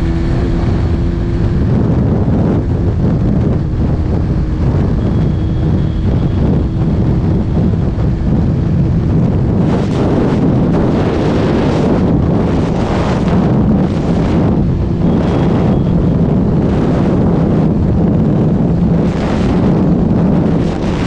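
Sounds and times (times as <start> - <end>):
motorcycle engine at full throttle: 0.0 - 21.0
wind noise on microphone: 0.0 - 21.0.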